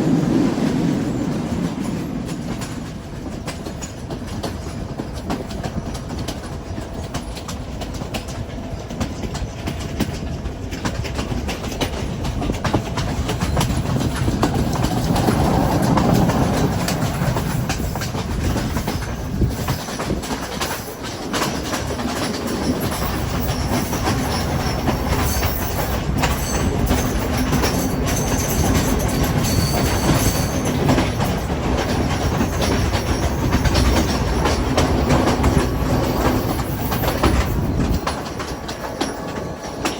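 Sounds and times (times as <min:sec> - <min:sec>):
train wheels clicking on rails: 0:00.0 - 0:39.9.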